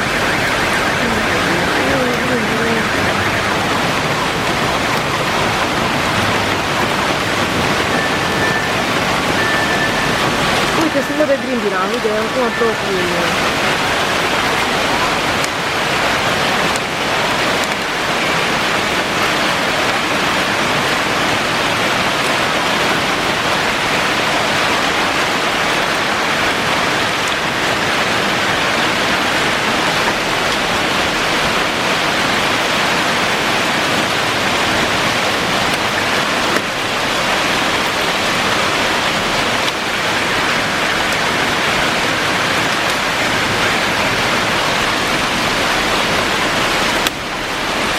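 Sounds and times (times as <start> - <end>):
heavy rain with hail: 0.0 - 47.9.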